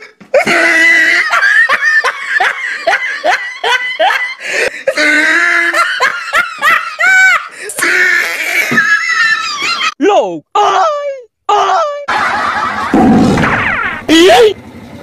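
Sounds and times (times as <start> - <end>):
high-pitched laughter: 0.4 - 10.0, 11.8 - 14.6.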